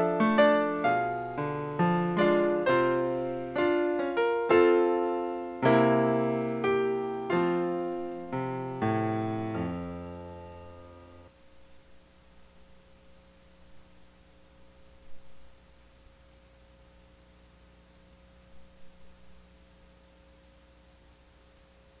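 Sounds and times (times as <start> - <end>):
faint steady hum with held tone: 0.0 - 22.0.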